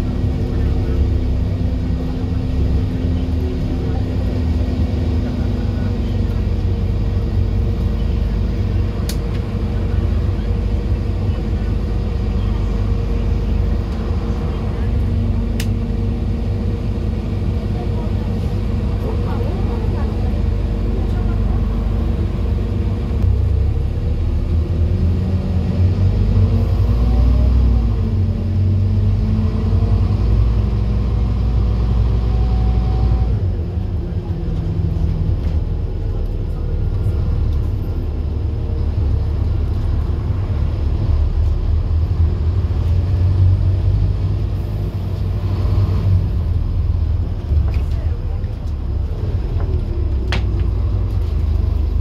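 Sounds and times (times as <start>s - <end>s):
bus diesel engine: 0.0s - 52.0s.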